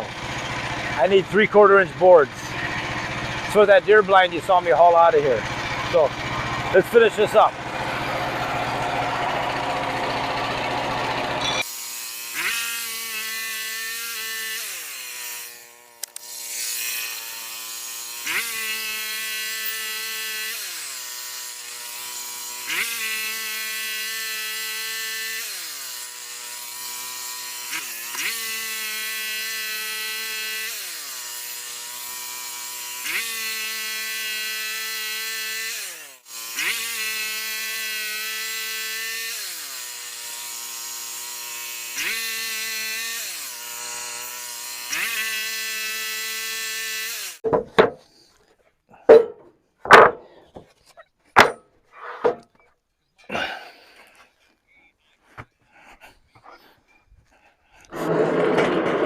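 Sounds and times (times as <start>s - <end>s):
sawmill engine cutting log: 0.0s - 52.6s, 57.3s - 59.0s.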